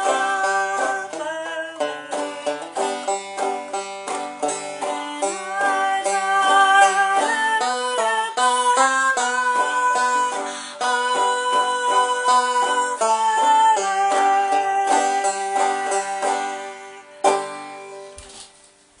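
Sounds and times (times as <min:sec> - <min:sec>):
strummed banjo chord: 0:00.0 - 0:18.2
banjo picked notes: 0:00.0 - 0:18.3.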